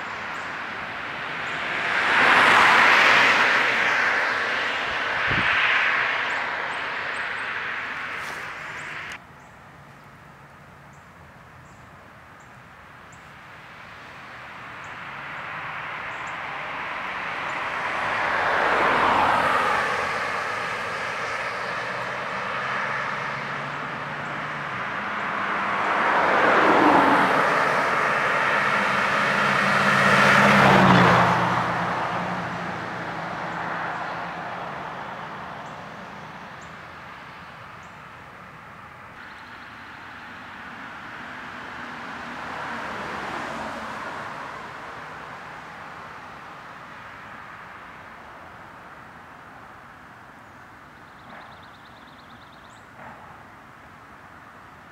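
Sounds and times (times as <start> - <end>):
cars passing by: 0.0 - 54.9.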